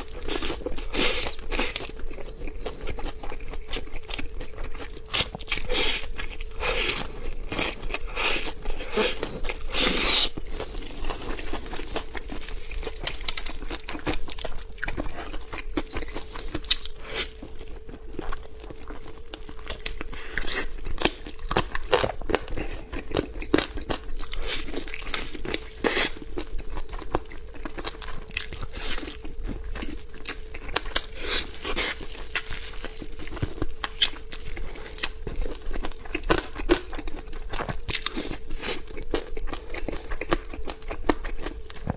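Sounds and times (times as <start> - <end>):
chewing and crunching: 0.0 - 41.9
crinkling: 5.0 - 40.4.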